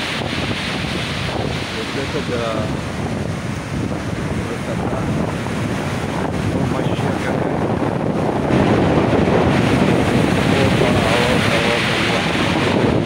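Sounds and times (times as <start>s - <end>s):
storm waves breaking: 0.0s - 13.0s
wind buffeting microphone: 0.0s - 13.0s.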